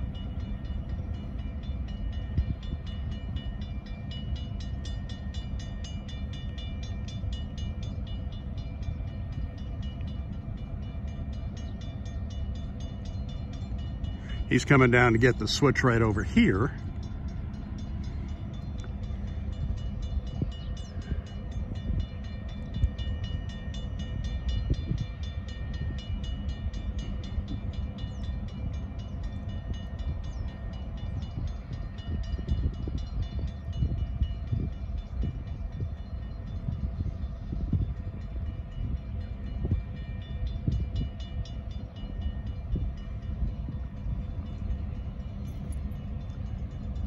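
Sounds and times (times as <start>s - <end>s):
locomotive engines rumbling: 0.0s - 47.0s.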